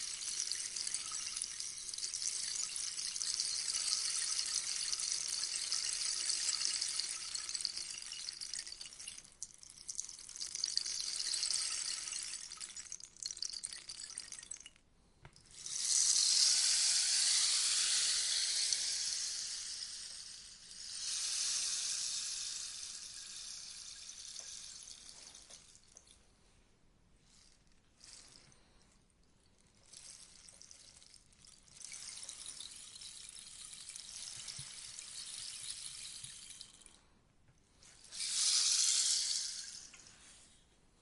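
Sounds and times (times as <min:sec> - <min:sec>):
rainstick trickling: 0:00.0 - 0:14.8, 0:15.4 - 0:26.2, 0:29.6 - 0:37.0, 0:37.8 - 0:40.5.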